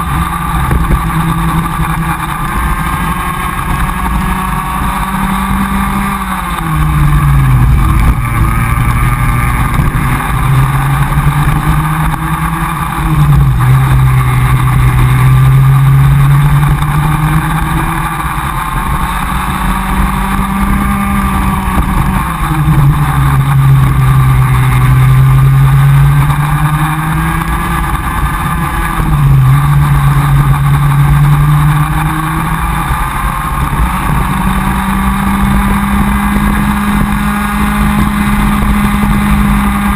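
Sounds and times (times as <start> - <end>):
kart engine at racing speed: 0.0 - 39.9.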